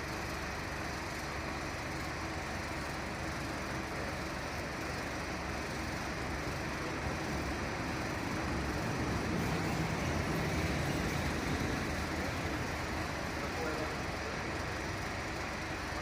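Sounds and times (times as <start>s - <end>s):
fire truck engine running: 0.0s - 16.0s.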